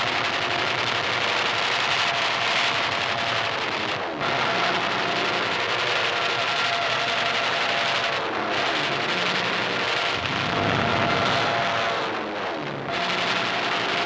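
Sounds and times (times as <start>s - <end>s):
fighter plane engine drone: 0.1s - 14.0s.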